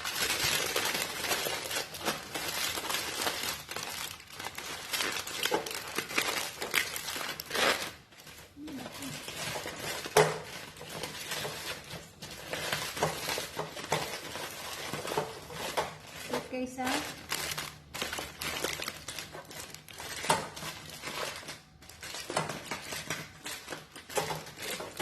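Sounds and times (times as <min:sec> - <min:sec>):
aluminium foil crinkling: 0:00.0 - 0:25.0.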